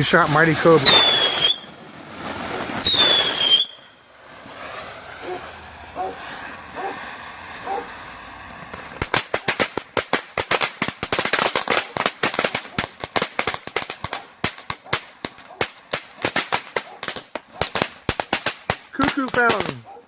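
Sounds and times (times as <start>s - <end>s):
firework crackling pops: 0.0s - 19.9s.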